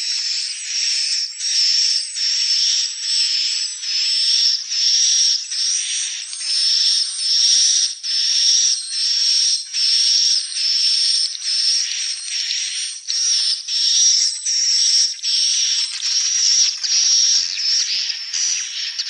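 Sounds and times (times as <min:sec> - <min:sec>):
high buzzy bird chirps: 0:00.2 - 0:19.0.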